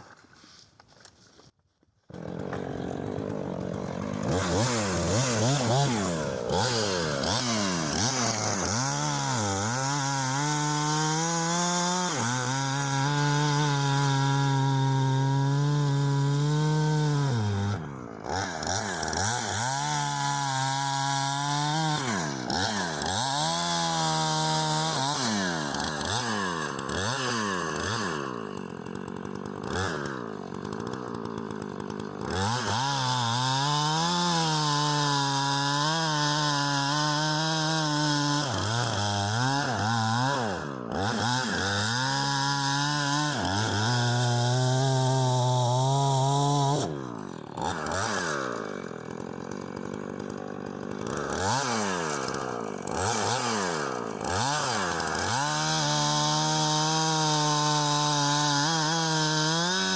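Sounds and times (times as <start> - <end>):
chainsaw cutting log: 0.0 - 59.9
chainsaw revving: 2.1 - 59.9.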